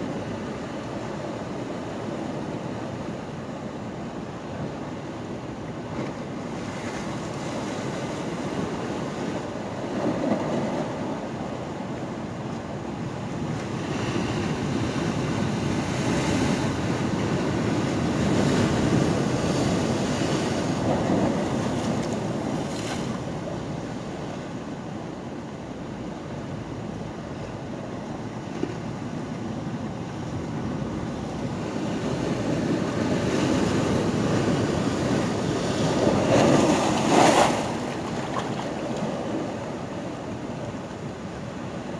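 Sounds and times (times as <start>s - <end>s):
ocean waves washing in: 0.0s - 41.9s.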